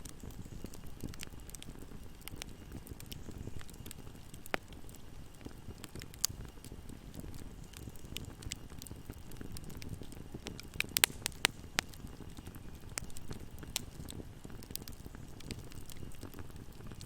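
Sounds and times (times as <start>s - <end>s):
fire crackling in a fireplace: 0.0s - 17.0s
sharp pops of burning wood: 0.0s - 17.0s.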